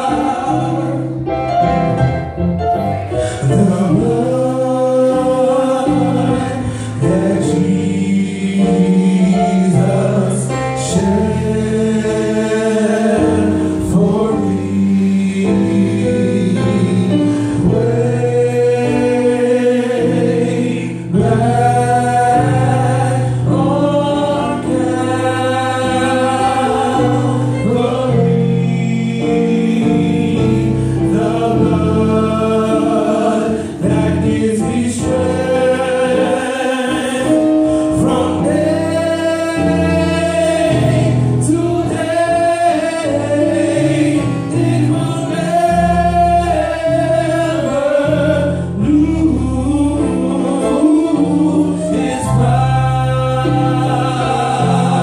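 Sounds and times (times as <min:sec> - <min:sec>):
male vocal quartet singing harmony: 0:00.0 - 0:55.0.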